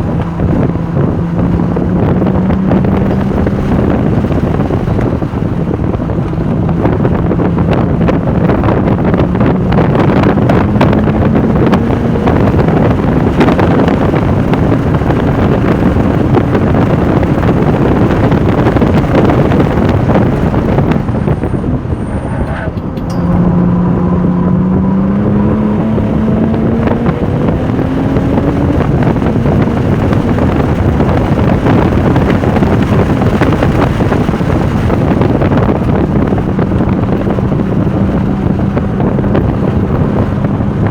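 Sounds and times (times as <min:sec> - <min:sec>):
sports car engine pulling hard: 0:00.0 - 0:40.9
wind noise on microphone: 0:00.0 - 0:40.9.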